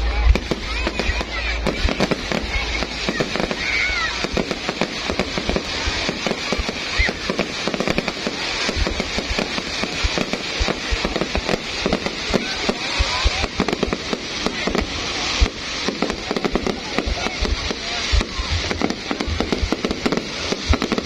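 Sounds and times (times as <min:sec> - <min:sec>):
firework whistles: 0:00.0 - 0:21.0
fireworks bangs and crackles: 0:00.0 - 0:21.0.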